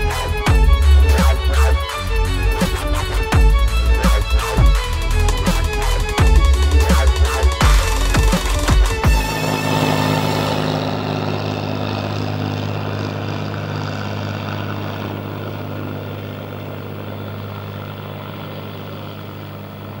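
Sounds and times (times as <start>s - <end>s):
propeller plane flying overhead: 0.0s - 20.0s.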